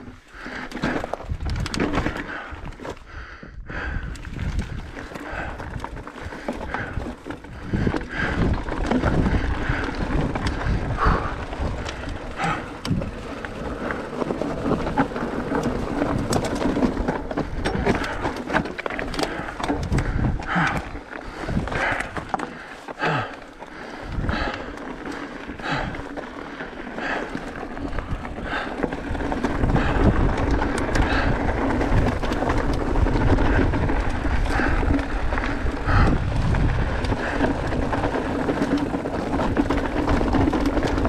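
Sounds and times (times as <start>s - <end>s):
bike rattling over rocks: 0.0s - 41.0s.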